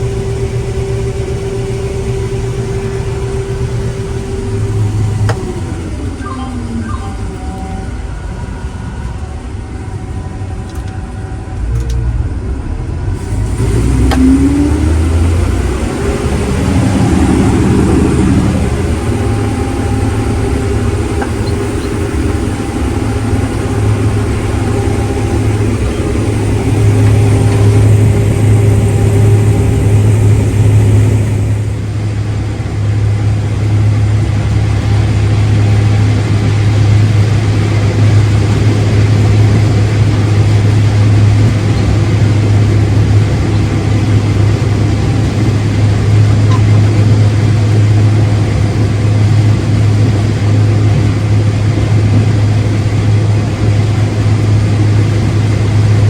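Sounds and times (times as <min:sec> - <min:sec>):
farm vehicle engine running: 0:00.0 - 0:56.0.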